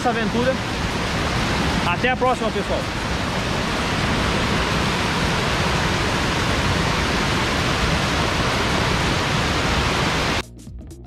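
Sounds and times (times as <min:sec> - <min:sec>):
waterfall and stream rushing: 0:00.0 - 0:10.4.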